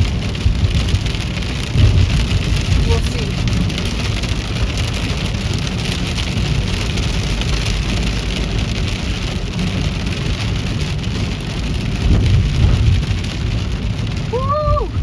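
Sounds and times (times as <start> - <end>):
heavy rain on a car: 0.0 - 15.0
low rumble: 0.0 - 15.0.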